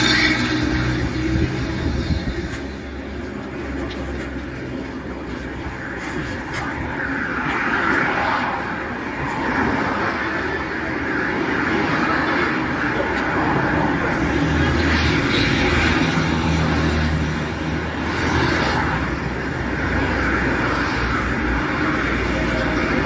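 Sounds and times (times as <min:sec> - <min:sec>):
large vehicle engine hum: 0:00.0 - 0:23.0
road traffic roar: 0:00.0 - 0:23.0.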